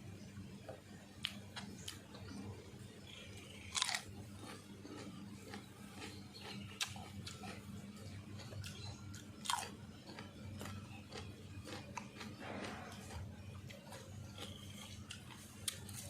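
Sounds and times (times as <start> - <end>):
faint low hum: 0.0 - 16.0
person chewing food: 0.6 - 16.0.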